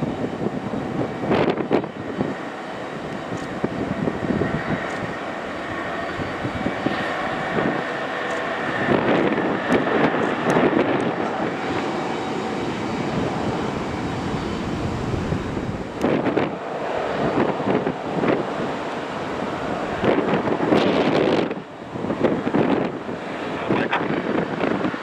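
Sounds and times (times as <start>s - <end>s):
jet engines rushing: 0.0s - 25.0s
wind buffeting microphone: 0.0s - 25.0s.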